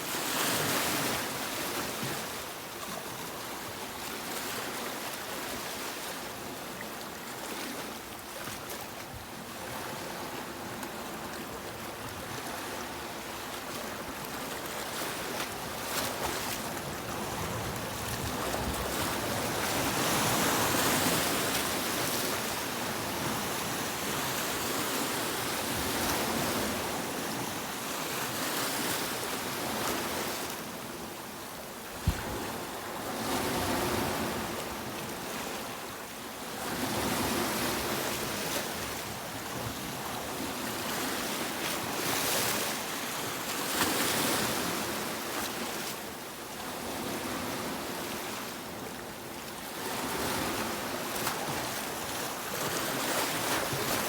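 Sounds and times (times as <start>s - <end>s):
sea waves breaking on a beach: 0.0s - 54.0s.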